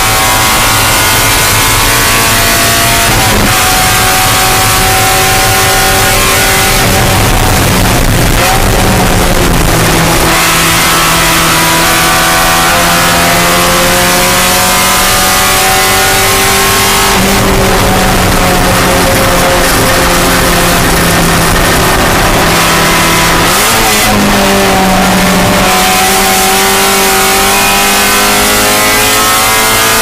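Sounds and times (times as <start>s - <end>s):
race car engine at high revs: 0.0s - 30.0s.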